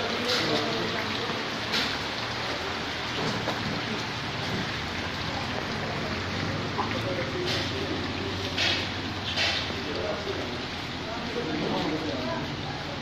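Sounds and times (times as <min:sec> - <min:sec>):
rain pattering on water: 0:00.0 - 0:13.0.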